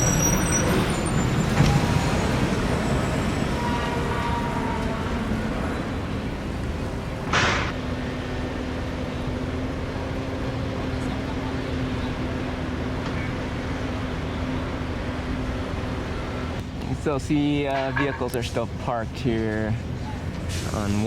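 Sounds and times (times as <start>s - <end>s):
road traffic with trucks: 0.0s - 21.0s.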